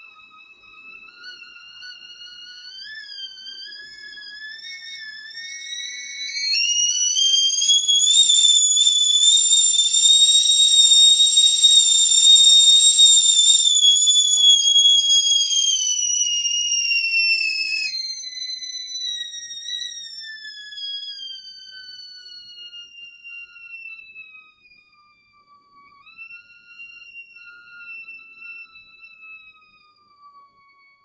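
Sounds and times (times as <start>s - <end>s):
kettle whistling: 0.0s - 31.0s.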